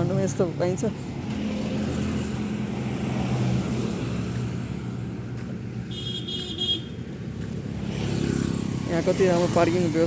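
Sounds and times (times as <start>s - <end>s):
motor hum from passing vehicles: 0.0s - 10.0s.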